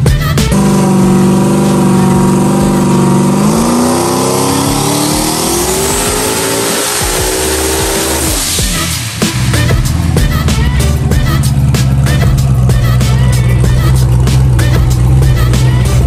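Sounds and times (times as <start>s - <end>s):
turbocharged engine revving on dyno: 0.4s - 16.0s.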